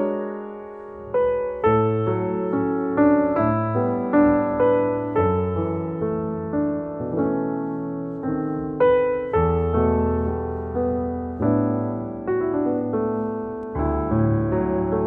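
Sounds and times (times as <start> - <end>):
slow piano piece: 0.0 - 15.0.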